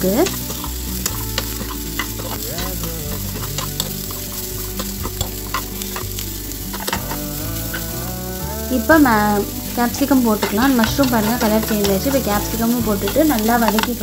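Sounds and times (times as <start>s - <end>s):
food sizzling in a frying pan: 0.0s - 14.0s
steel spoon scraping a pan: 0.0s - 14.0s.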